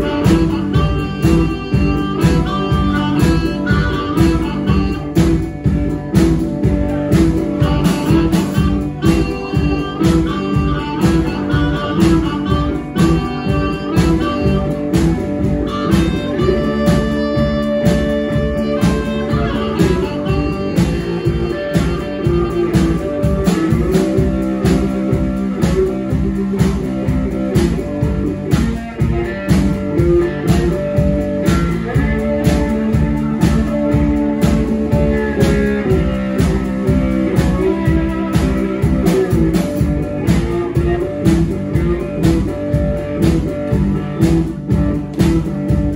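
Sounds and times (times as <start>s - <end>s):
harmonica: 0.0s - 45.1s
drum kit beat: 0.0s - 45.9s
hollow-body guitar: 0.0s - 45.9s.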